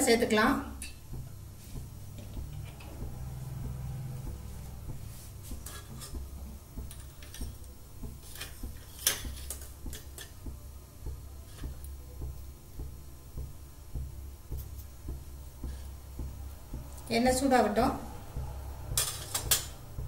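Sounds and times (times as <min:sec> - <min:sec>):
low steady hum: 0:00.0 - 0:20.0
oil ticking and popping: 0:00.0 - 0:20.0.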